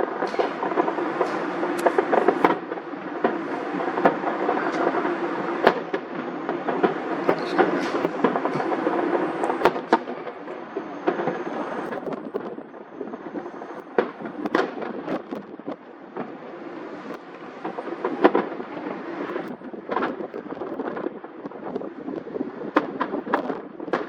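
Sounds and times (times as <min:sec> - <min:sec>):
fireworks bangs and cracks: 0:00.0 - 0:24.0
steady rumbling din: 0:00.0 - 0:24.0.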